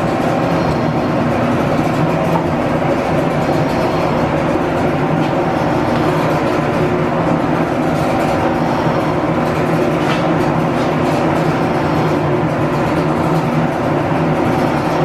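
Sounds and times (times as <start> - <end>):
line shafting and belts running: 0.0 - 15.0
metal shaper cutting: 0.0 - 15.0.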